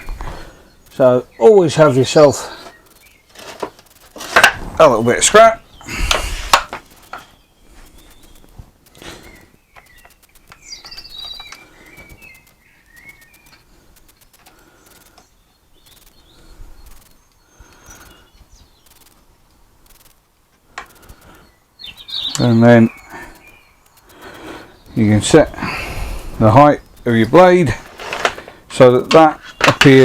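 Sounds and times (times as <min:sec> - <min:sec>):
birds twittering: 0:00.0 - 0:30.0.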